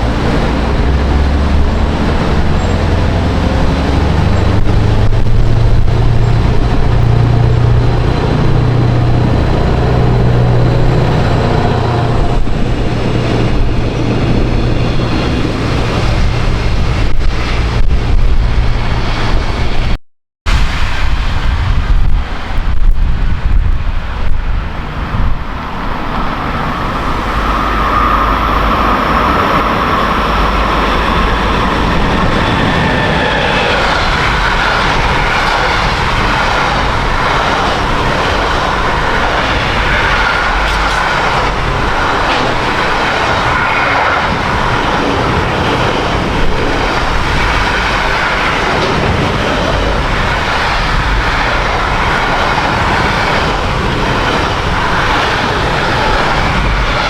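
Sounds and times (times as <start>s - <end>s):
train running past: 0.0s - 57.0s
wind buffeting microphone: 0.0s - 57.0s.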